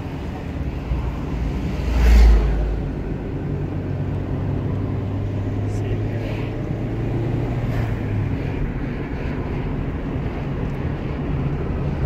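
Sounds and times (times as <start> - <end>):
vehicle road rumble: 0.0 - 12.0
wind buffeting microphone: 0.0 - 12.0.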